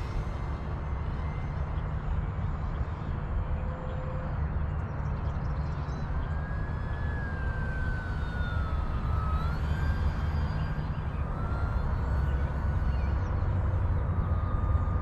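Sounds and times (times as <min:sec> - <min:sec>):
model plane motor whine: 0:00.0 - 0:15.0.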